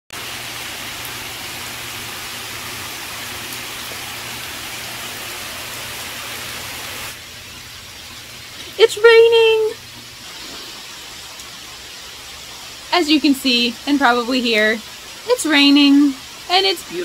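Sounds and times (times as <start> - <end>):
rain falling on trees: 0.1 - 17.0.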